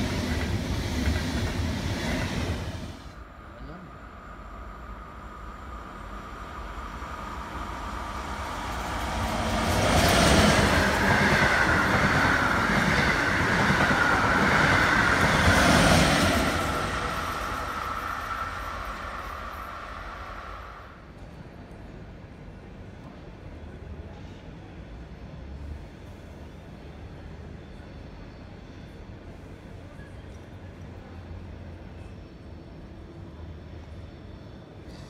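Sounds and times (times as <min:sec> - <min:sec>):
passenger train rumbling past: 0:00.0 - 0:35.0.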